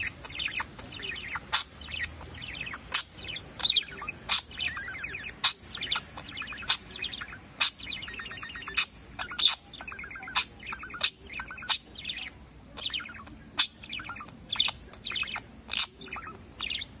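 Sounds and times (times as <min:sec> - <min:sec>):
budgerigar warbling chatter: 0:00.0 - 0:17.0.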